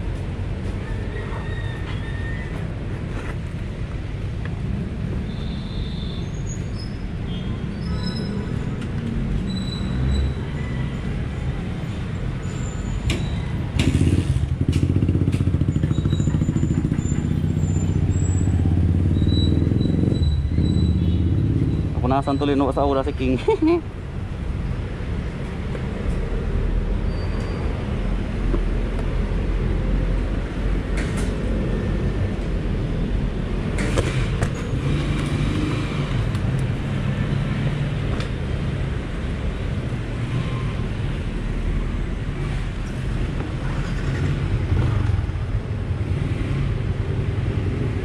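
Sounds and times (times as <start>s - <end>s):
motor vehicle rumble: 0.0s - 48.0s.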